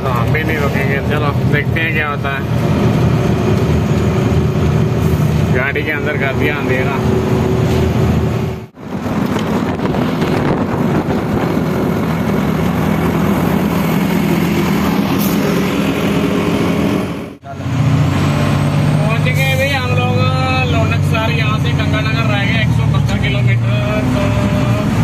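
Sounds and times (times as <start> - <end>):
diesel engine droning: 0.0 - 25.0
road noise: 0.0 - 25.0.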